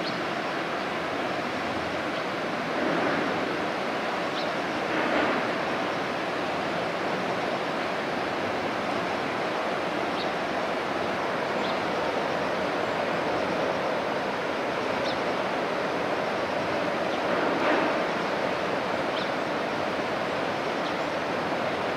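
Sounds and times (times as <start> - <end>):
water rushing in waves: 0.0 - 21.9
wind: 0.0 - 21.9.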